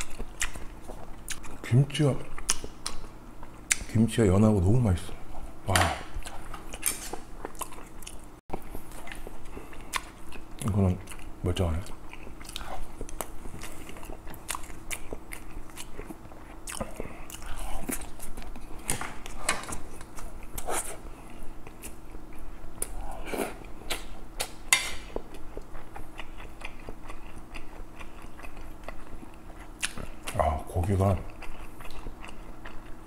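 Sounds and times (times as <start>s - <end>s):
man chewing: 0.0s - 3.9s, 6.1s - 30.5s, 31.2s - 33.0s.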